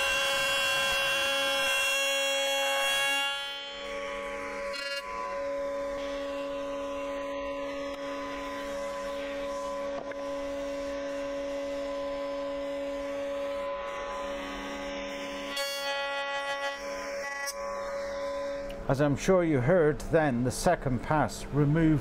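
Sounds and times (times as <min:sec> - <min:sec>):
router whining while cutting wood: 0:00.0 - 0:18.8.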